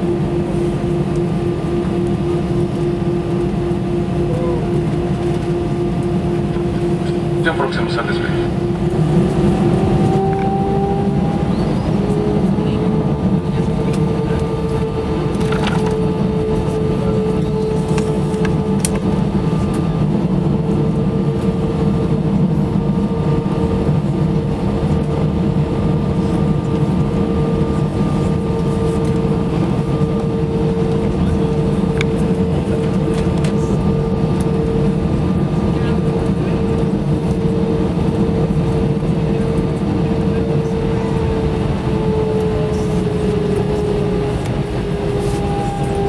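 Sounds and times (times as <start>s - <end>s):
airplane cabin rumble: 0.0s - 46.0s
jet engines whining: 0.0s - 46.0s.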